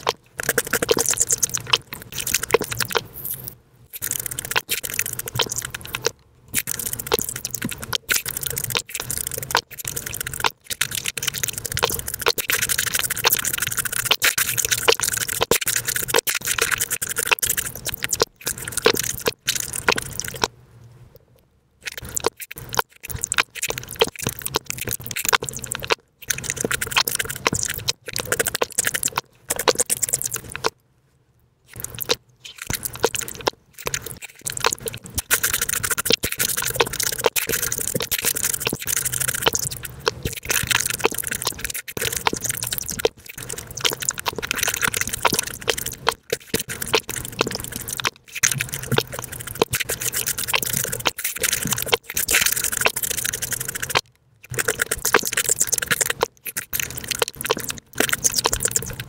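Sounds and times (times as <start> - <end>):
fruit being chewed and slurped: 0.0 - 20.5, 21.8 - 30.8, 31.7 - 59.0.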